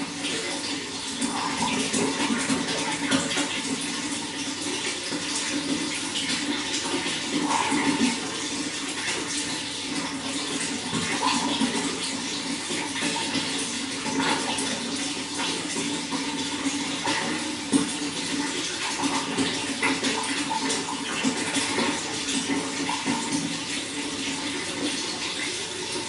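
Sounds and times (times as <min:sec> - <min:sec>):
running water gurgling: 0:00.0 - 0:26.0.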